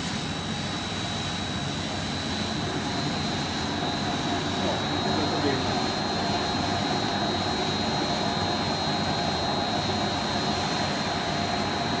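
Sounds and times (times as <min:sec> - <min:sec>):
high-pitched machine whine: 0:00.0 - 0:12.0
washing machine hum and rush: 0:00.0 - 0:12.0.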